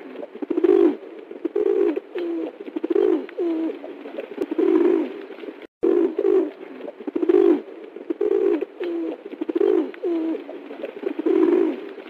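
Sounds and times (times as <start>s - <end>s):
pigeon cooing: 0.0s - 5.1s, 5.8s - 12.0s.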